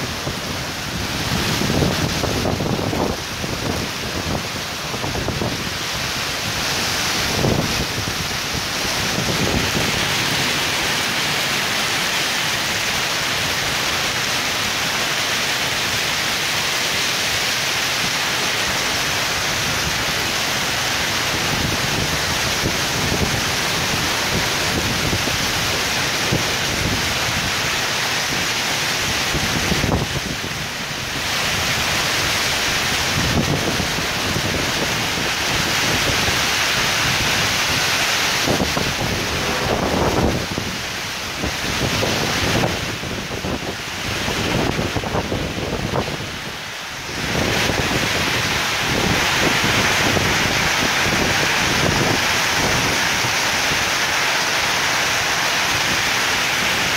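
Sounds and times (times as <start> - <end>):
wind gusts buffeting microphone: 0.0 - 14.3, 18.8 - 56.9
torrential rain pouring: 0.0 - 56.9.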